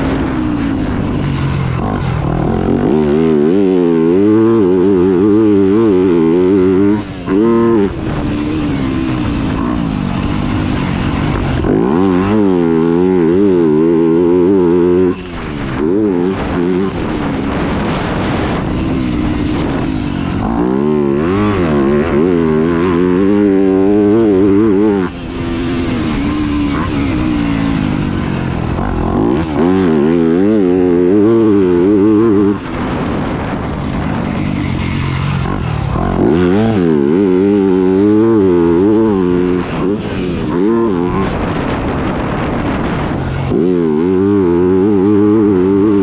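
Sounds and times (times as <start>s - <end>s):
motocross bike engine revving: 0.0s - 46.0s.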